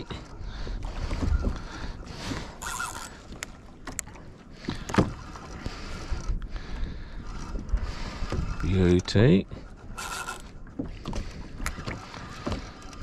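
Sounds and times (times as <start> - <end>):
water slapping boat hull: 0.0 - 13.0
wind rumbling on microphone: 0.0 - 13.0.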